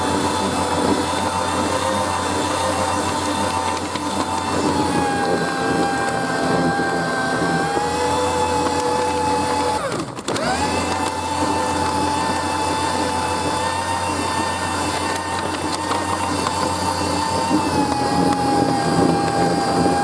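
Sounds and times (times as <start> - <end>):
shredder motor whining: 0.0 - 20.0.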